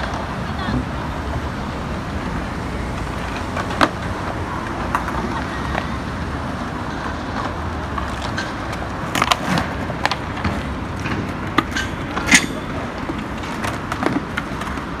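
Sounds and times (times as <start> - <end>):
skateboard clacks: 0.0 - 15.0
traffic hum: 0.0 - 15.0.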